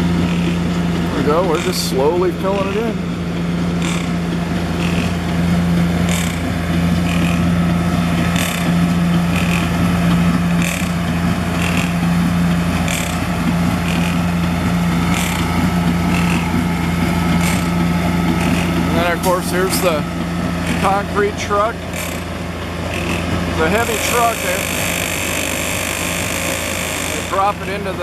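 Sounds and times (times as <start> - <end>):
concrete pump clunking: 0.0 - 28.0
diesel engine drone: 0.0 - 28.0.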